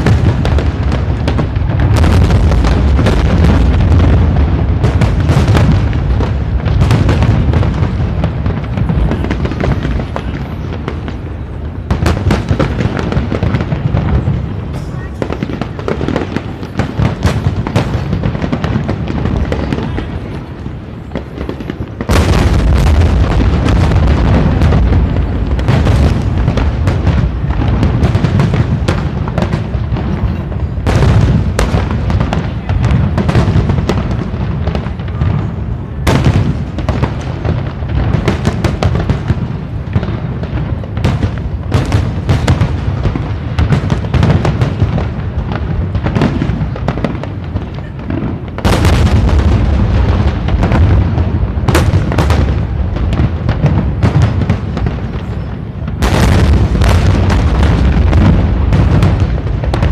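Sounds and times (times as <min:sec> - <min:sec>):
firework crackles: 0:00.0 - 0:59.9.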